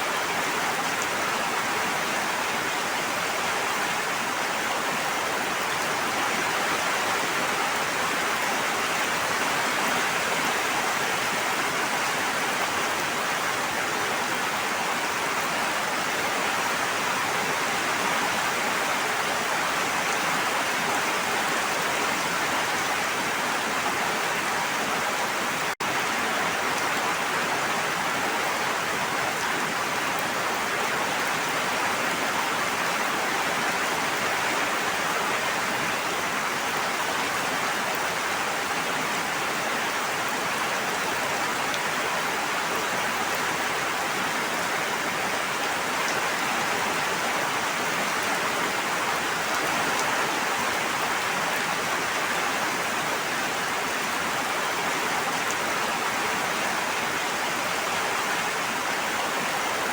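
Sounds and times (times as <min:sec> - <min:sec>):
rush of water: 0:00.0 - 0:59.9.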